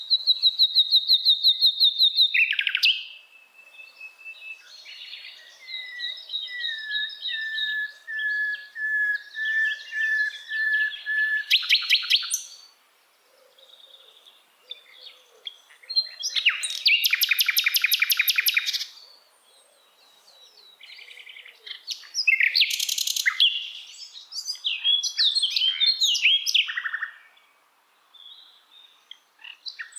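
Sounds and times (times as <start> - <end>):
songbird singing: 0.0 - 29.9.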